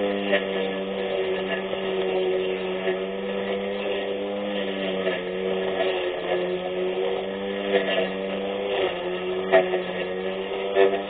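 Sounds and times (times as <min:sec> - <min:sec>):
electric lawn mower whining: 0:00.0 - 0:11.0.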